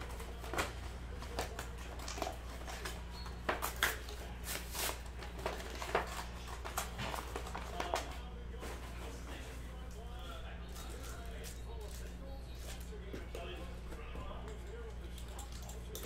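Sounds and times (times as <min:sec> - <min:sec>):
steady low hum: 0:00.0 - 0:16.0
trading cards rustling and clicking: 0:00.0 - 0:16.0.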